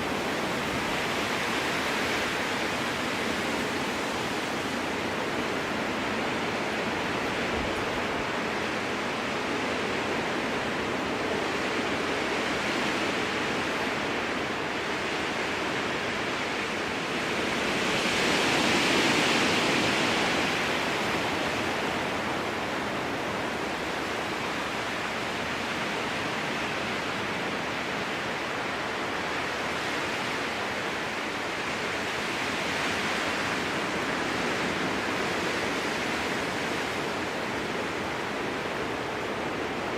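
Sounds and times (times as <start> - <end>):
strong wind through trees: 0.0 - 39.9.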